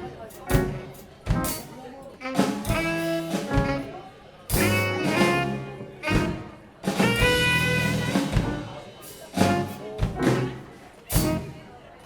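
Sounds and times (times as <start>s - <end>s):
jazz band playing: 0.0s - 12.0s
drum kit hits: 0.5s - 1.7s, 2.3s - 3.9s, 4.5s - 11.6s.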